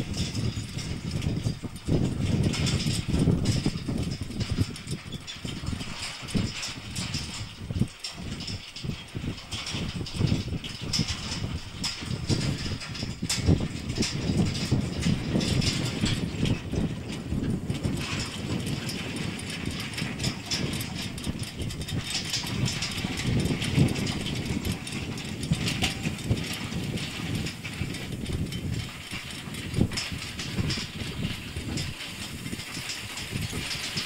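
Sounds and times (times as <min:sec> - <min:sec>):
horse hooves: 0:00.0 - 0:34.0
rig rattling: 0:00.0 - 0:34.0
wind on microphone: 0:00.0 - 0:34.0.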